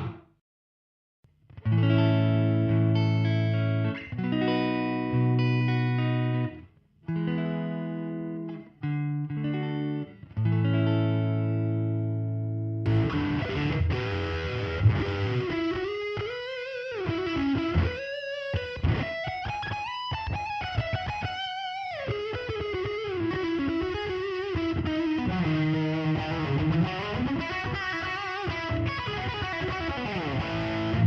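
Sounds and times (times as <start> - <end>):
electric guitar lead line: 0.0 - 0.2, 1.5 - 31.0.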